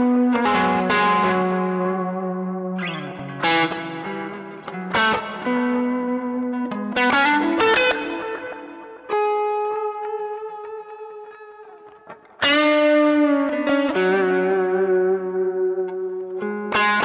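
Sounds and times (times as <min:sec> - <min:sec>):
electric guitar sustained notes: 0:00.0 - 0:17.0.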